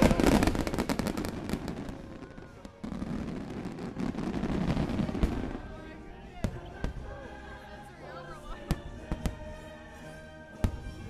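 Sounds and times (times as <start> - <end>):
fireworks crackling and popping: 0.0 - 7.2, 8.5 - 11.0.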